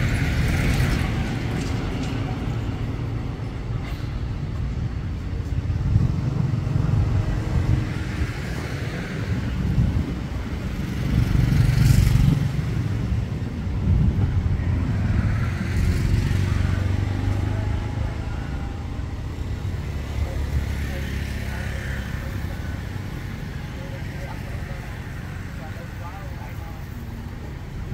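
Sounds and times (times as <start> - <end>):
motor vehicles passing: 0.0 - 27.9.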